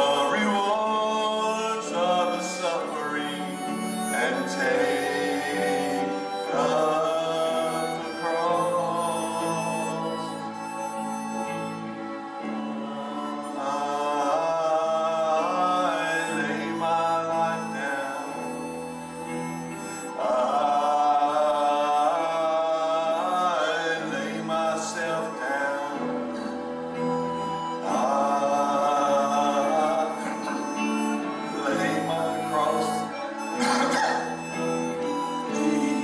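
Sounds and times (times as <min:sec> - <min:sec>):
worship song singing: 0:00.0 - 0:36.0.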